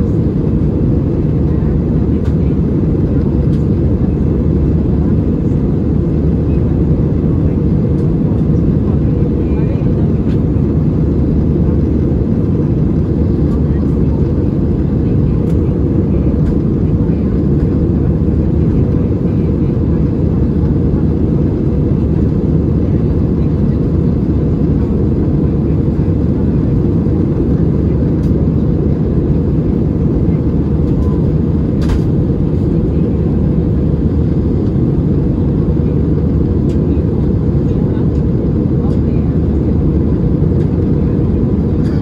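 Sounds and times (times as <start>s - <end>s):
airplane cabin roar: 0.0s - 42.0s.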